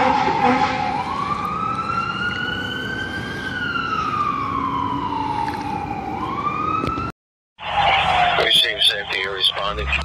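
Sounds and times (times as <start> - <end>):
fire truck siren wailing: 0.0 - 10.0.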